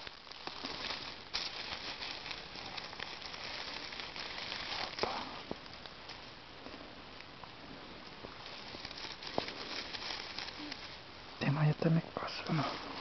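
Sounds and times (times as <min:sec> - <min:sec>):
rustling of grass and dry leaves: 0:00.0 - 0:13.0.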